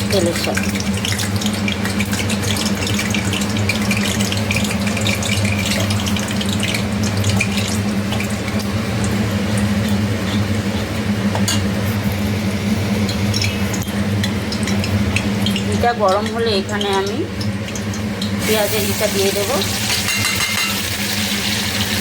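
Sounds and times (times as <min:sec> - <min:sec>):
steady low hum: 0:00.0 - 0:19.6
hot oil crackling and popping: 0:00.0 - 0:22.0.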